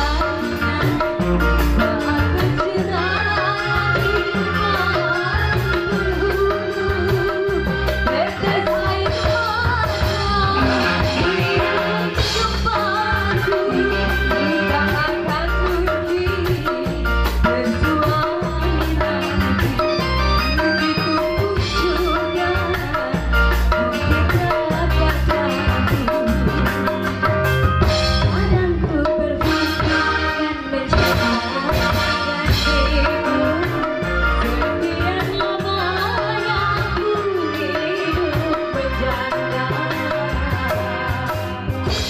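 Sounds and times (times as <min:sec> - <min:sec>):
live band with guitar and drums: 0:00.0 - 0:42.0
woman singing into a microphone: 0:00.0 - 0:42.0.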